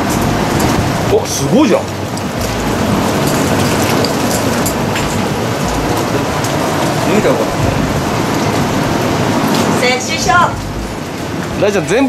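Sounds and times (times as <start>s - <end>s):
foot bath jets churning water: 0.0s - 12.0s.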